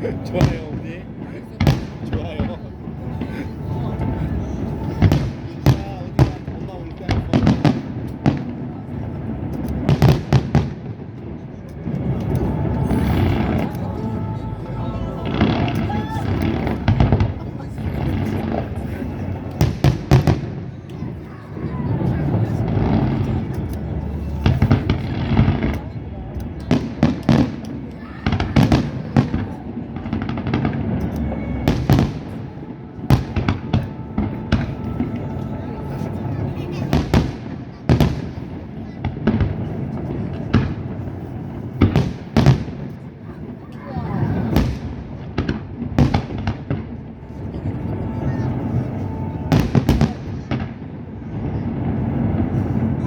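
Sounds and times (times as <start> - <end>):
fireworks bangs: 0.0 - 53.0
rumbling echo: 0.0 - 53.0.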